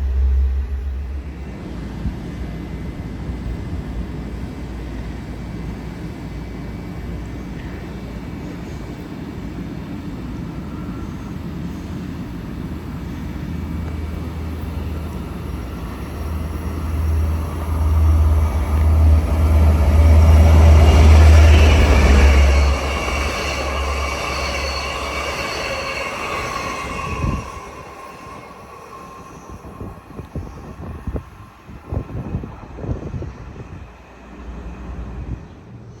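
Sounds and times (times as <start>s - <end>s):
wheels ringing on rails: 0.0s - 32.4s
train rumble: 0.0s - 36.0s.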